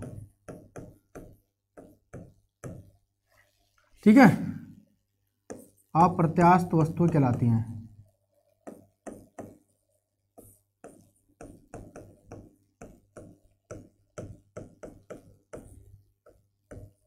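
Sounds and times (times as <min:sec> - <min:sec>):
marker pen writing on whiteboard: 0:00.0 - 0:03.8, 0:05.0 - 0:17.0.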